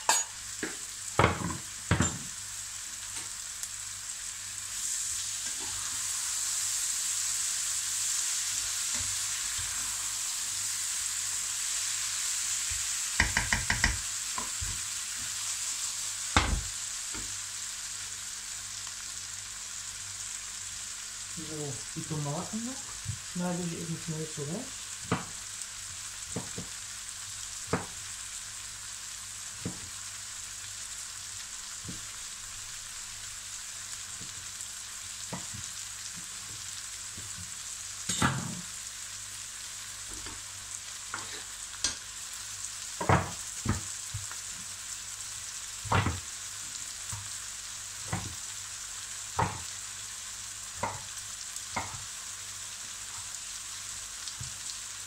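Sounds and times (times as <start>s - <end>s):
vegetables sizzling in a pan: 0.0s - 55.0s.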